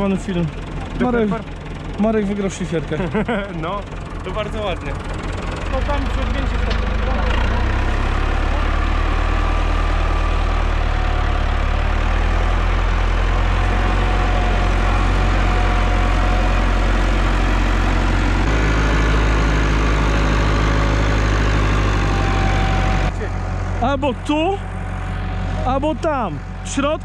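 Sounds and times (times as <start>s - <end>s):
tractor diesel engine droning: 0.0s - 27.0s.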